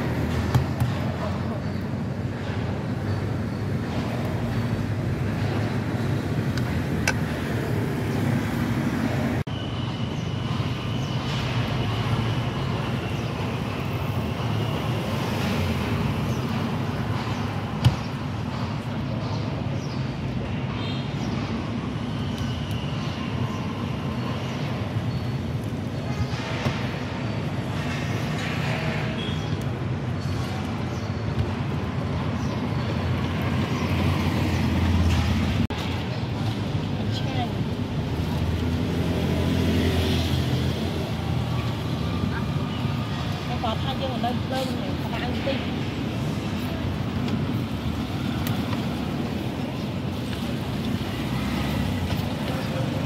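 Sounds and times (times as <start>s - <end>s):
street traffic rumble: 0.0s - 53.0s.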